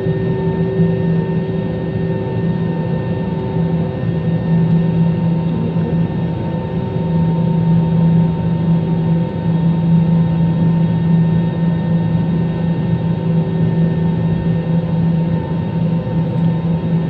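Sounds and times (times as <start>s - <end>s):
airplane engines droning: 0.0s - 17.0s.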